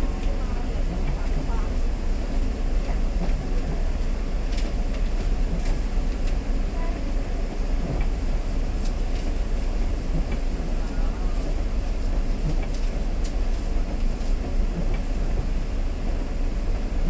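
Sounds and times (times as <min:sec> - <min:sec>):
bus engine low rumble: 0:00.0 - 0:17.0.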